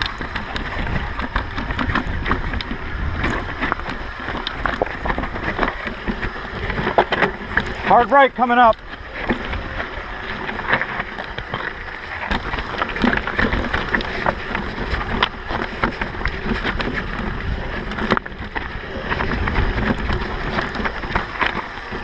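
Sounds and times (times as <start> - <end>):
bike rattling over bumps: 0.0 - 22.0
wind buffeting microphone: 0.0 - 22.0.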